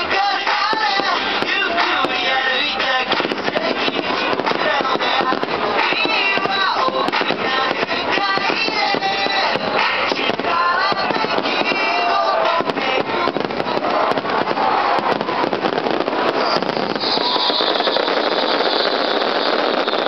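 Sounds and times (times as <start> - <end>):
fireworks bursting: 0.0 - 20.0
music with singing: 0.0 - 20.0.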